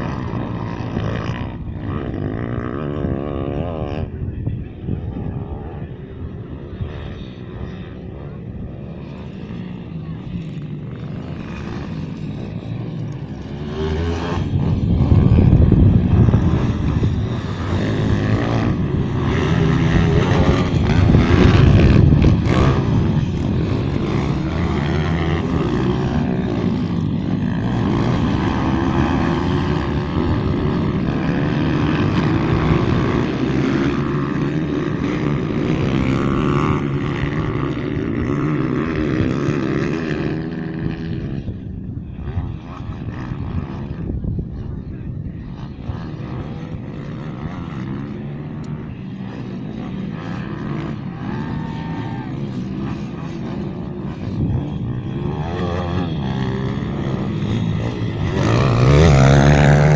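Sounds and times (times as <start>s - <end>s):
pit bike engines revving: 0.0s - 59.9s.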